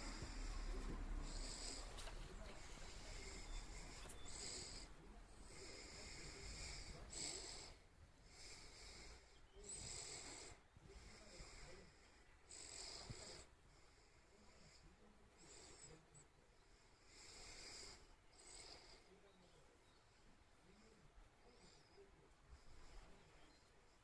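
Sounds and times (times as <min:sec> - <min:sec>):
puppy breathing softly: 0:00.0 - 0:24.0.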